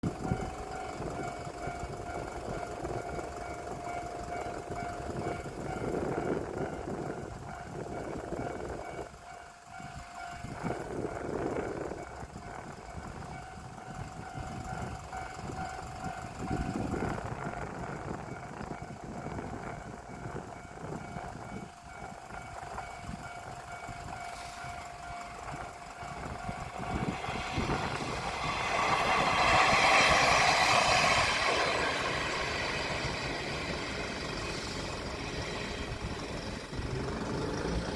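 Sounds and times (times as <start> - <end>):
diesel railcar engine and wheels: 0.0 - 37.9.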